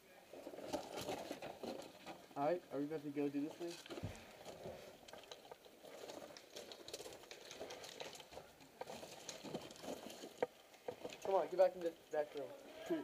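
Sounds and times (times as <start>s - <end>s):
faint rustling of gear: 0.0s - 13.0s.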